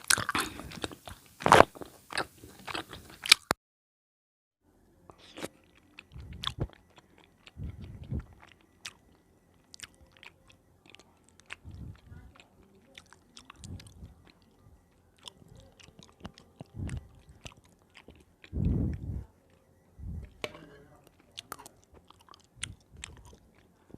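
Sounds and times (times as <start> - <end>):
person chewing crisp snack: 0.0 - 3.6, 5.1 - 23.9.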